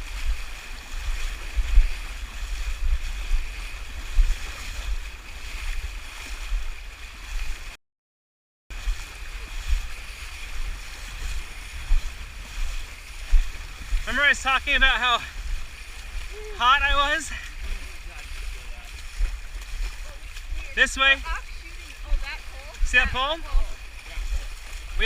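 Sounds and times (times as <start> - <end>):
wind buffeting microphone: 0.0 - 7.6, 8.8 - 25.0
river current rushing: 0.0 - 7.7, 8.7 - 25.0.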